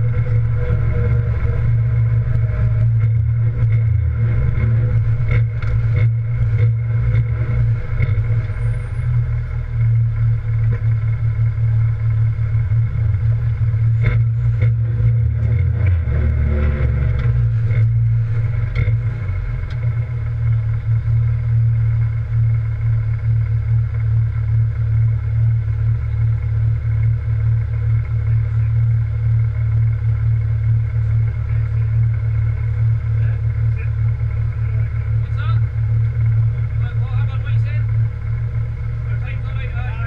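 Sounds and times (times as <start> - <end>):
rally car engine low revs: 0.0 - 40.0.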